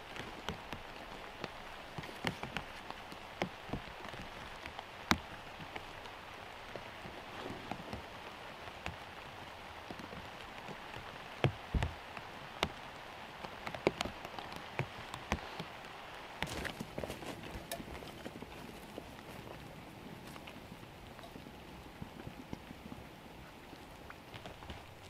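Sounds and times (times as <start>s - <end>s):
heavy raindrops ticking: 0.0s - 23.0s
steady rain falling: 0.0s - 25.0s.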